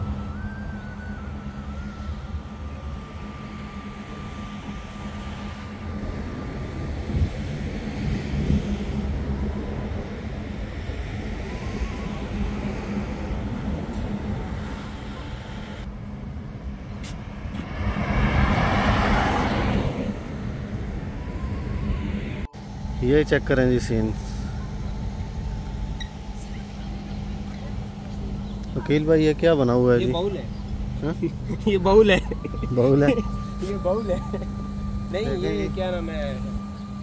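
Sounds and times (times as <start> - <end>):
road traffic rumble: 0.0 - 37.0
vehicle passing close: 0.0 - 37.0.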